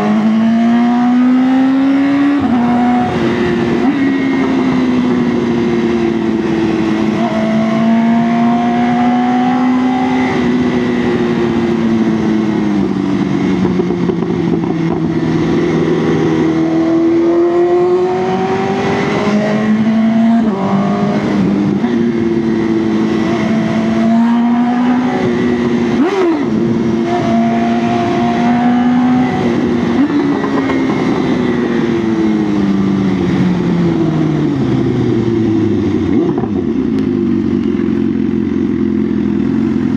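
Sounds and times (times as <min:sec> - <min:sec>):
engine revving: 0:00.0 - 0:33.5
motorcycle engine accelerating: 0:00.0 - 0:39.9.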